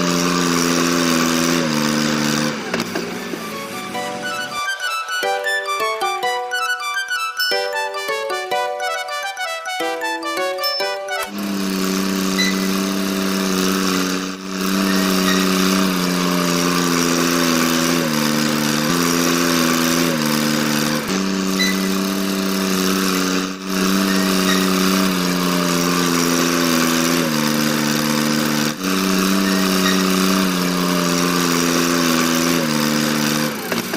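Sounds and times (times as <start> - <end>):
small motor whining: 0.0 - 33.9.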